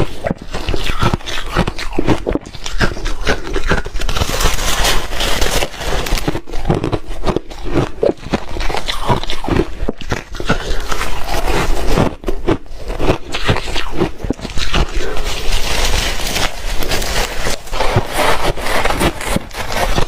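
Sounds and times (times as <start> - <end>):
crunching and chewing ice: 0.0 - 20.0.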